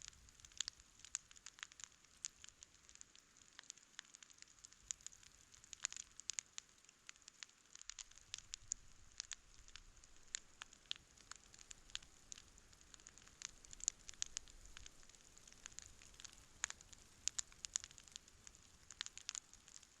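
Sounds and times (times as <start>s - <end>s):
campfire crackling and popping: 0.0s - 20.0s
faint steady hiss: 0.0s - 20.0s.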